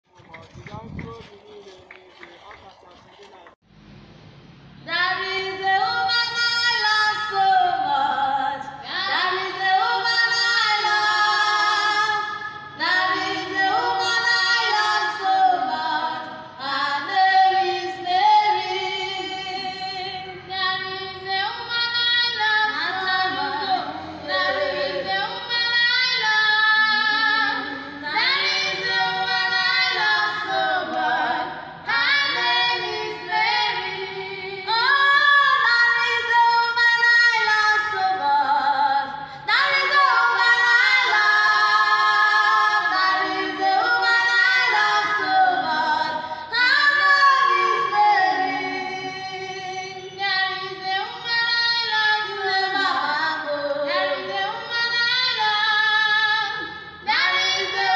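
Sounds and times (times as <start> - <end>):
two girls singing: 4.8 - 57.9.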